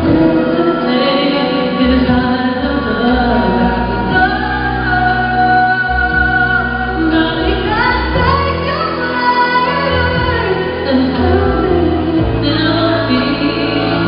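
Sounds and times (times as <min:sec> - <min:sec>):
woman singing a pop ballad: 0:00.0 - 0:14.0.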